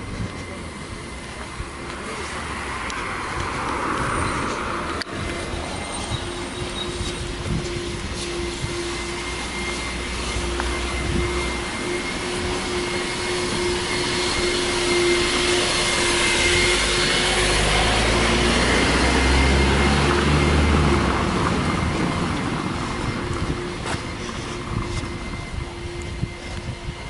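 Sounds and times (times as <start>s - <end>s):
vacuum cleaner running: 5.0s - 27.0s.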